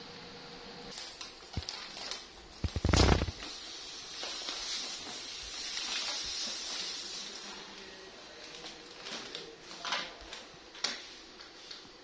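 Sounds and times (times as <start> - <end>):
plastic bags rustling on tiled floor: 0.9 - 12.0.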